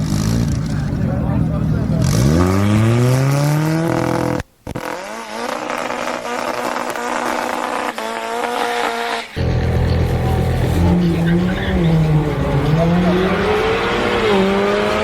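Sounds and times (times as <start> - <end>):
sports car engine at full throttle: 0.0 - 15.0.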